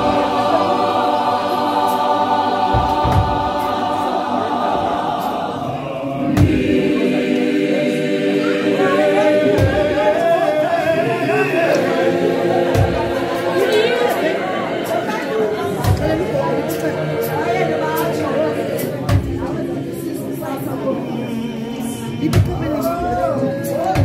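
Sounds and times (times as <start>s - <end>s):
gospel choir singing a cappella: 0.0s - 24.0s.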